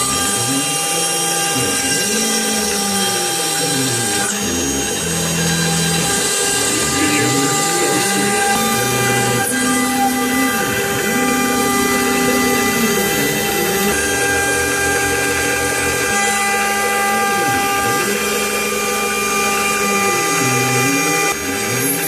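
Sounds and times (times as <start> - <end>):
motor hum changing pitch: 0.0 - 22.0
spindle whine while cutting: 0.0 - 22.0.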